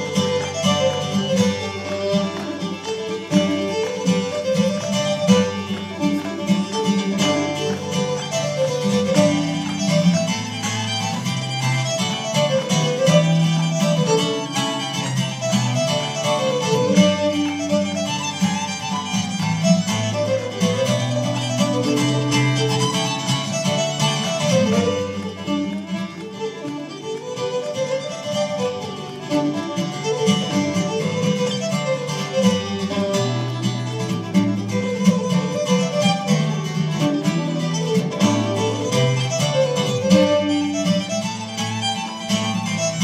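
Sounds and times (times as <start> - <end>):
acoustic guitar accompaniment: 0.0 - 43.0
bowed fiddle melody: 0.0 - 43.0.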